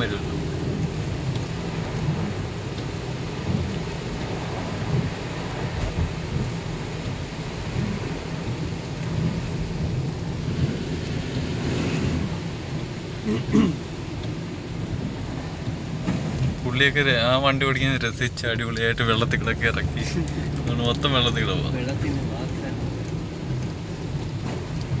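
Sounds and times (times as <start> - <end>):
car driving on a wet road: 0.0 - 25.0
rain on a car: 0.0 - 25.0.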